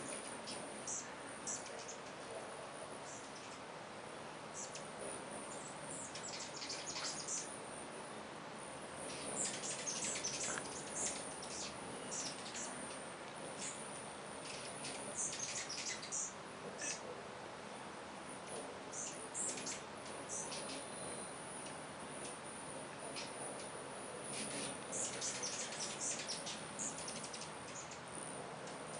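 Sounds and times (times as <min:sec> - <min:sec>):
faint steady hiss: 0:00.0 - 0:28.9
hummingbirds chipping and chattering: 0:00.0 - 0:28.9.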